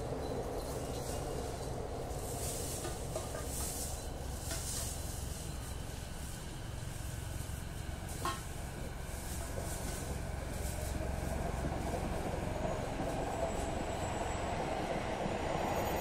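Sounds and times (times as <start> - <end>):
low rumble of distant vehicles: 0.0 - 16.0.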